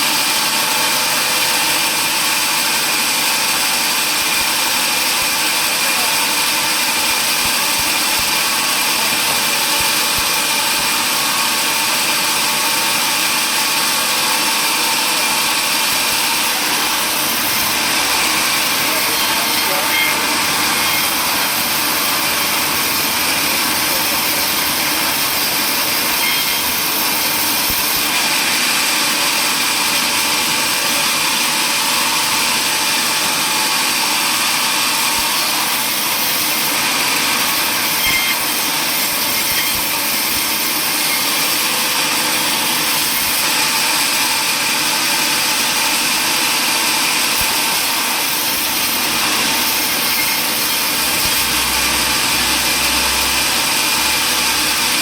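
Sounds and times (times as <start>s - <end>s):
power saw cutting wood: 0.0s - 55.0s.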